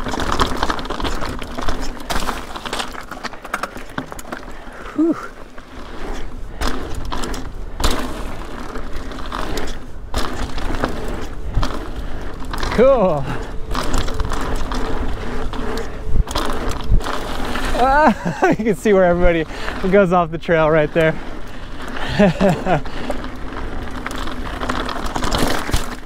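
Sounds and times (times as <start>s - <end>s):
mountain bike rattling clatter: 0.0s - 26.0s
wheels knocking on stones: 0.0s - 26.0s.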